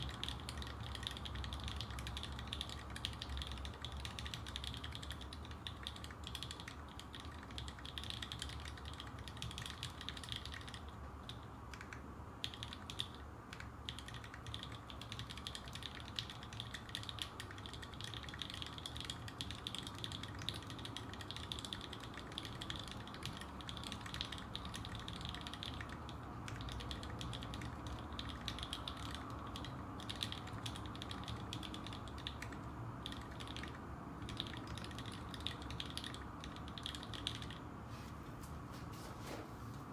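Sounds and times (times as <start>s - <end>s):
fast typing on mechanical keyboard: 0.0s - 37.7s.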